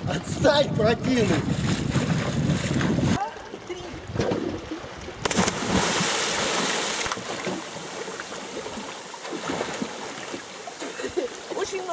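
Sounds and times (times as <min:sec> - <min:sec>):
water churning and slapping: 0:00.0 - 0:11.9.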